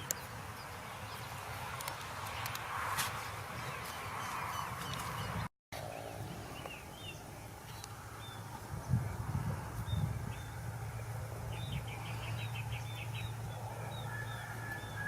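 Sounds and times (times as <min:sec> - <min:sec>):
small birds chirping: 0:00.0 - 0:02.7, 0:03.6 - 0:15.0
steady outdoor hiss: 0:00.0 - 0:15.0.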